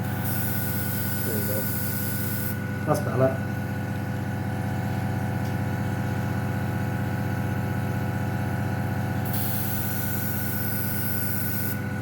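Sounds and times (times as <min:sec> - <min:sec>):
compressor humming: 0:00.0 - 0:12.0.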